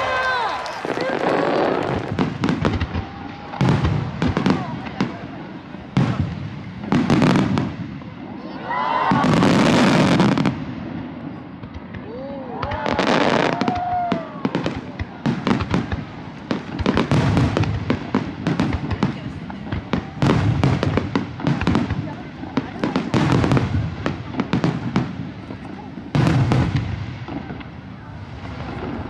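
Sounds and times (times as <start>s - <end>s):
firework bangs and crackles: 0.0s - 29.0s.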